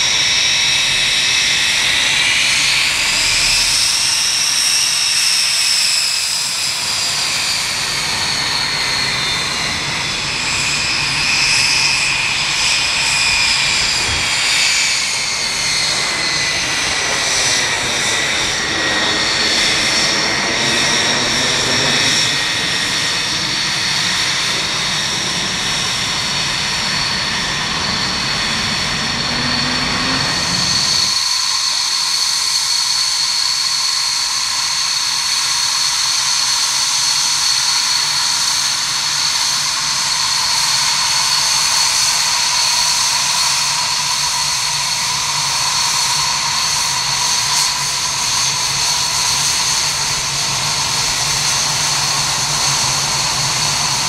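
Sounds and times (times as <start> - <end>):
higher jet engine whine: 0.0 - 54.0
jet engine whine over rumble: 0.0 - 54.0.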